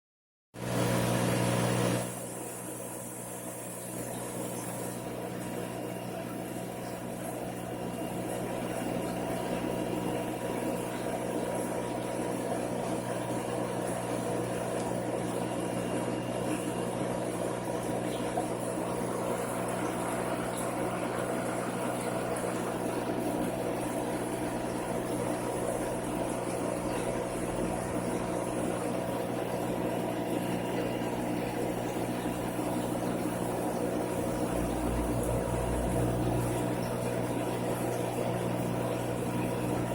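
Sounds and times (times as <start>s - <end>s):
aquarium pumps humming: 0.6s - 39.9s.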